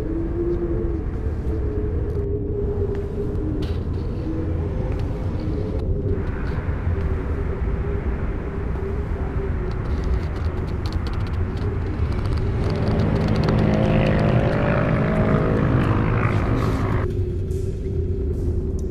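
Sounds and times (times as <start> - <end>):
low rumbling drone: 0.0 - 18.9
pitched hum: 0.0 - 18.9.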